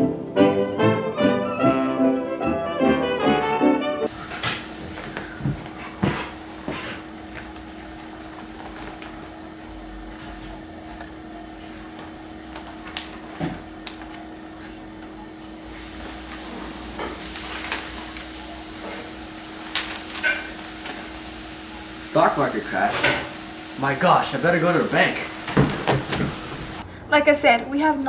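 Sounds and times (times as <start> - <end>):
steady room hum: 0.0 - 28.0.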